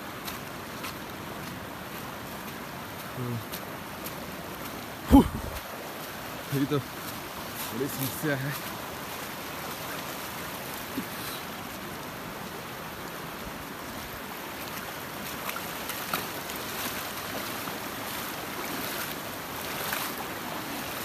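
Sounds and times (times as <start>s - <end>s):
river flowing over stones: 0.0s - 21.0s.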